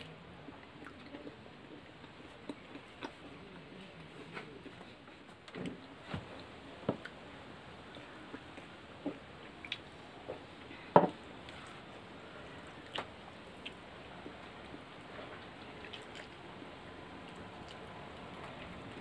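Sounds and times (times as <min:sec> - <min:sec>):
chewing: 0:00.0 - 0:07.2, 0:07.8 - 0:19.0.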